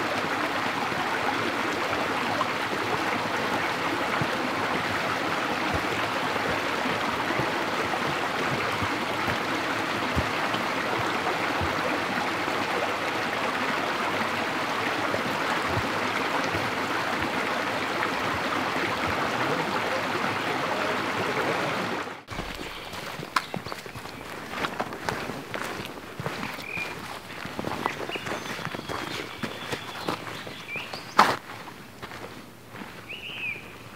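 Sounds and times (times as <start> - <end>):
water stream rushing: 0.0 - 33.9.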